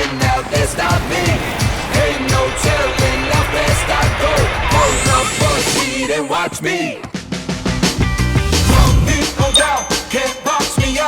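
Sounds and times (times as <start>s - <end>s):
upbeat rock and hip-hop song: 0.0s - 11.0s.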